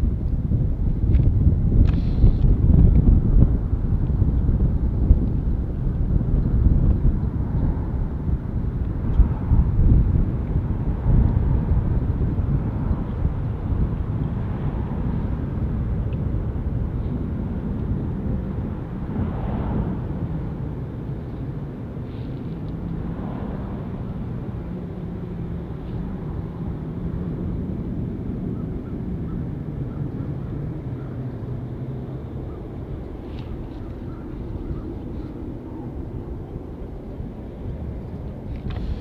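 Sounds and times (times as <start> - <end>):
distant jet engines rumbling: 0.0 - 39.0.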